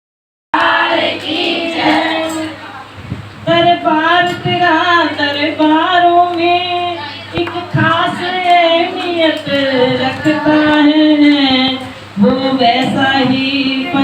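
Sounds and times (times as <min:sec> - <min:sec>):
woman singing devotional song: 0:00.6 - 0:14.0.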